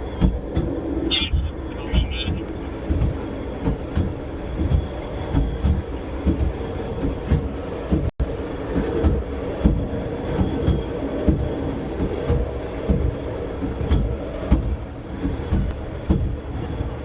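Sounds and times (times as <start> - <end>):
rail car rumbling along track: 0.0 - 17.0.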